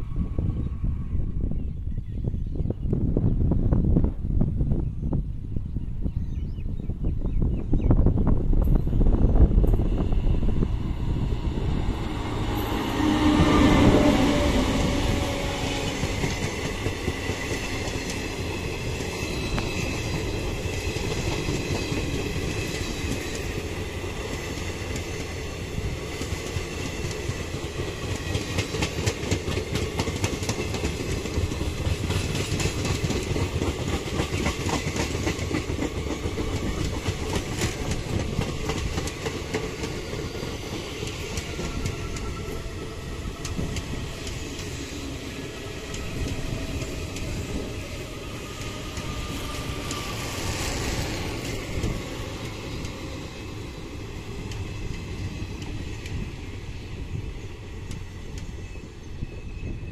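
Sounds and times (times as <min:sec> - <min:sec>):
electric locomotive whine: 0:00.0 - 0:06.0, 0:06.9 - 0:59.9
train coaches rumbling: 0:07.0 - 0:59.9.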